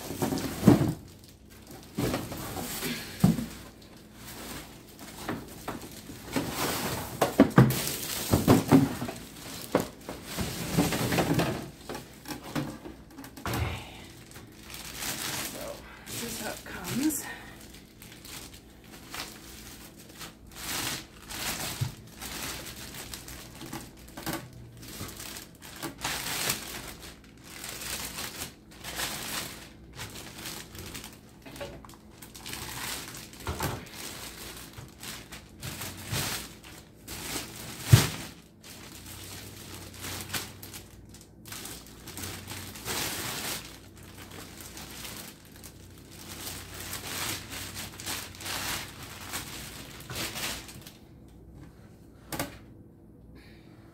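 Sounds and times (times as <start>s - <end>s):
plastic wrapping crinkling: 0.0s - 51.1s.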